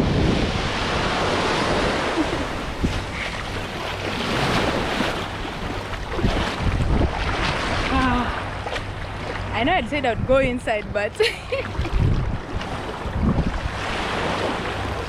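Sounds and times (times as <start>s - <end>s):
ocean surf breaking: 0.0s - 9.6s, 11.5s - 15.0s
wind rumbling on microphone: 0.0s - 15.0s.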